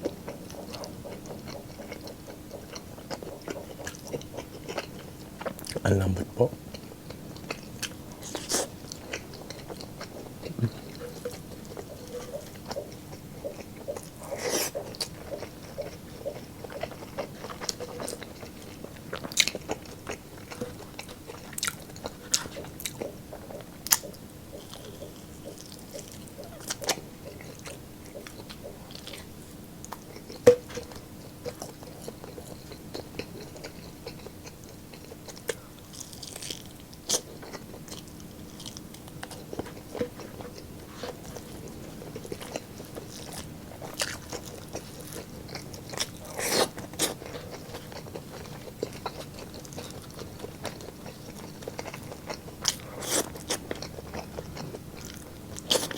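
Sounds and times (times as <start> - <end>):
chewing with wet mouth clicks: 0.0 - 5.8, 6.7 - 55.9
food crunching: 0.0 - 55.9.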